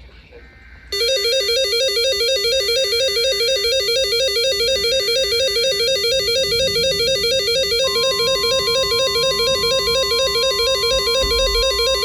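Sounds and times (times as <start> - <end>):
steady higher tone: 0.9 - 12.0
warbling alarm tone: 0.9 - 12.0.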